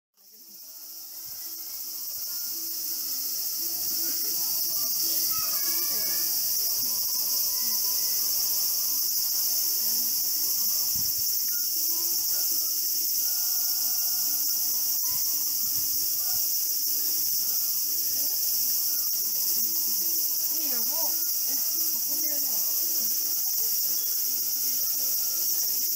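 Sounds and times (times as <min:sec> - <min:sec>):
high-pitched insect chorus: 0:00.2 - 0:25.9.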